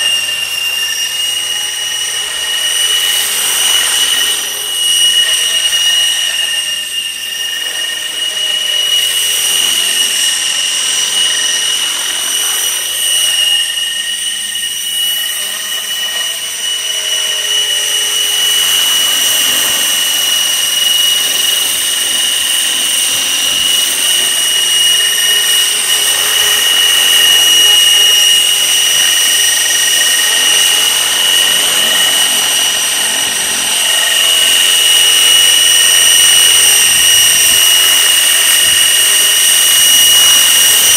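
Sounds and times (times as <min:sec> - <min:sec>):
rc helicopter whine: 0:00.0 - 0:40.9.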